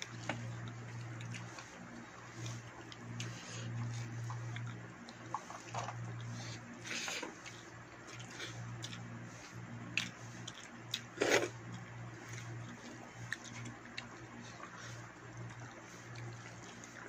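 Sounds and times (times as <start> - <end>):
chewing and mouth clicks: 0.0 - 17.0
steady low hum: 0.0 - 17.0.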